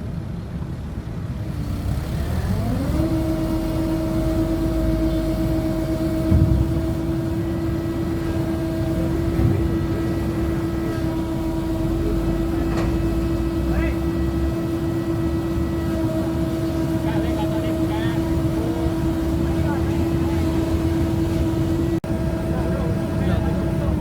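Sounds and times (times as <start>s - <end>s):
excavator engine whining: 0.2s - 24.0s.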